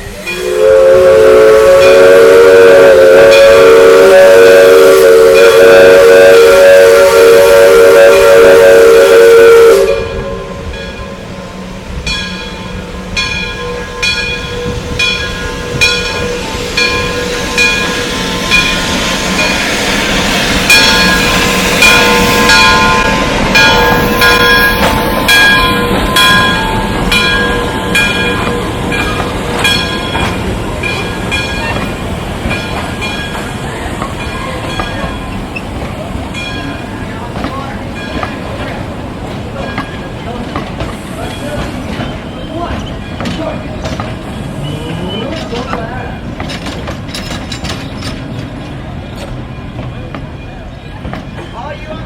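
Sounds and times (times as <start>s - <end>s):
rumble of moving train: 0.0s - 52.0s
locomotive bell ringing: 1.7s - 2.2s, 9.8s - 40.4s, 41.2s - 52.0s.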